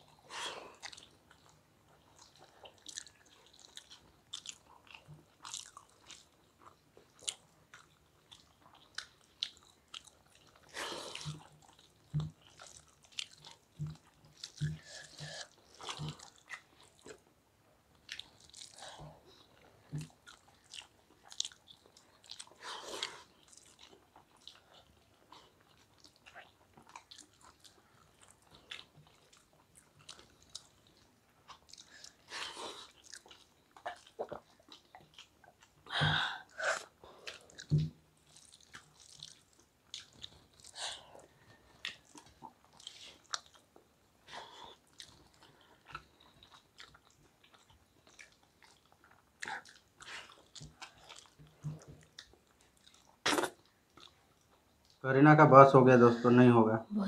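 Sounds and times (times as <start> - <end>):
close-up chewing: 0.0 - 55.0.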